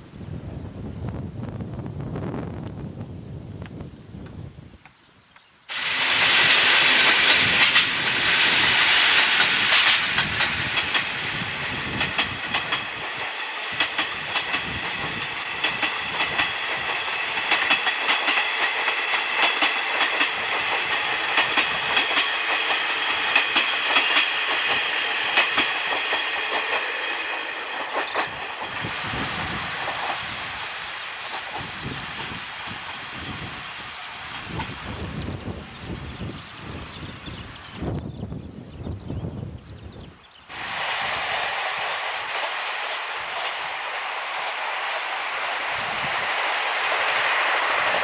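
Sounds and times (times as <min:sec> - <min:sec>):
train passing on jointed track: 0:00.0 - 0:04.5, 0:05.4 - 0:48.0.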